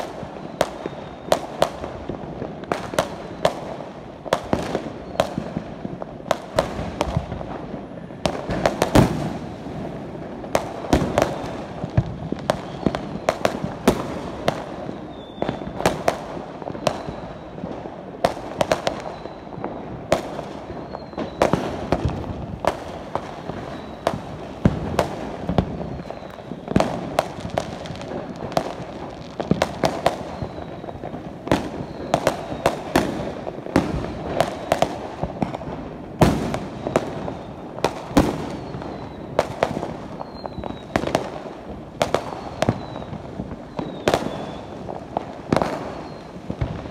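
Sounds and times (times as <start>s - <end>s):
fireworks bangs and pops: 0.0s - 46.9s.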